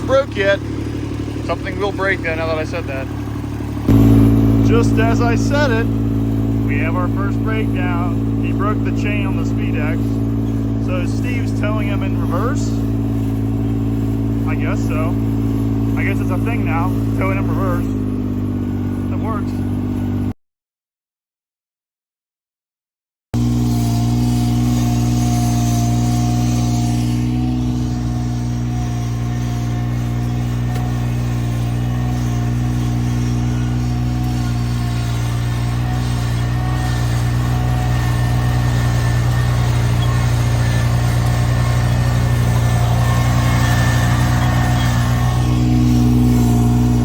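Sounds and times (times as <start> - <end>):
engine running steadily: 0.0 - 20.3, 23.4 - 47.0.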